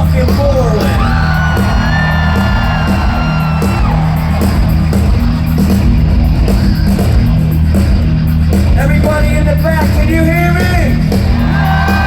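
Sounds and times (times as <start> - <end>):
metal band playing: 0.0 - 12.0.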